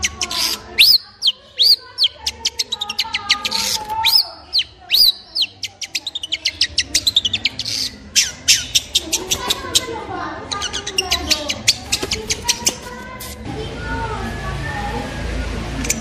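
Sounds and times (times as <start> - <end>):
shrike singing: 0.0 - 16.0.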